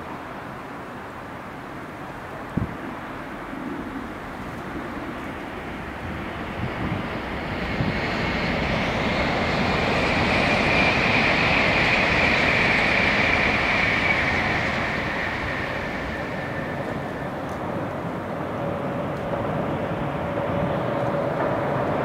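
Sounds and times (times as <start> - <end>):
train passing: 0.1 - 22.0
wheel and rail noise: 0.1 - 22.0.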